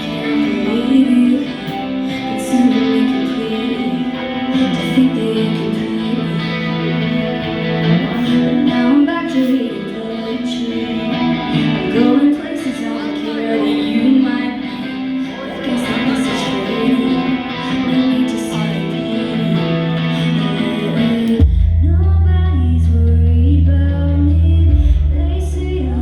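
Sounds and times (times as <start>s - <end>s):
live band with guitar: 0.0s - 26.0s.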